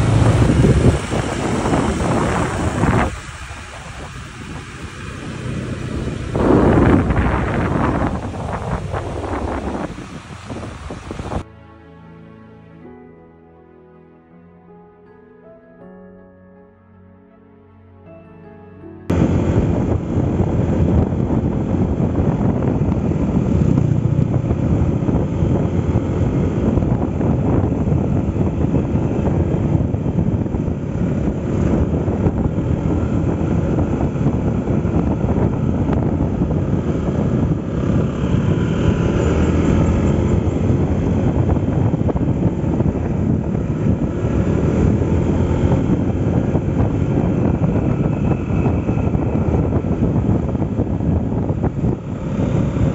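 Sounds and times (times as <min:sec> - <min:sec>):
scooter engine running: 0:00.0 - 0:11.4, 0:19.1 - 0:52.9
wind over microphone: 0:00.0 - 0:11.5, 0:19.1 - 0:52.9.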